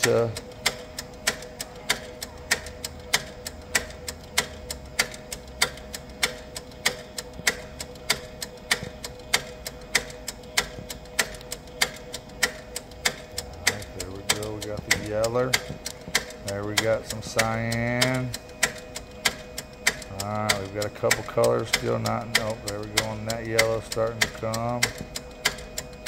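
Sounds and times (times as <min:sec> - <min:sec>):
faint steady hum: 0:00.0 - 0:26.0
printer clicking rhythmically: 0:00.0 - 0:26.0.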